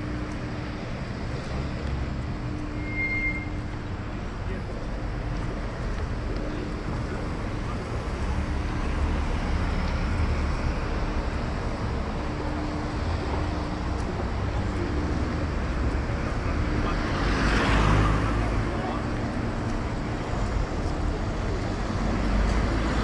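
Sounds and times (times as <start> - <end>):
diesel engine rumble: 0.0 - 23.0.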